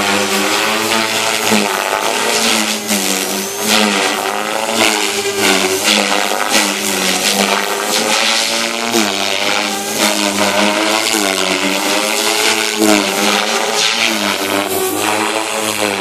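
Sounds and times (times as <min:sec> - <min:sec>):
rc helicopter buzzing whine: 0:00.0 - 0:16.0.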